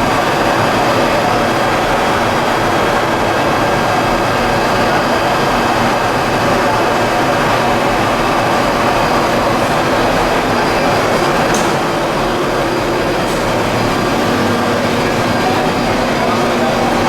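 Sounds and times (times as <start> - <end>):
industrial machinery hum: 0.0 - 17.0.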